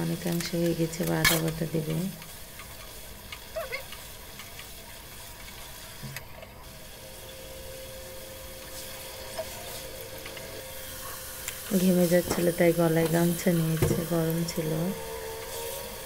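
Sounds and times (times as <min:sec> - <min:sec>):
curry simmering and sizzling: 0:00.0 - 0:16.0.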